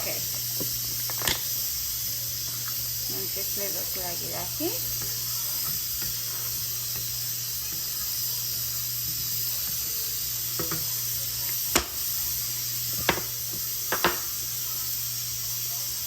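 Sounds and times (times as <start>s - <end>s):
curry sizzling in a pan: 0.0s - 16.0s.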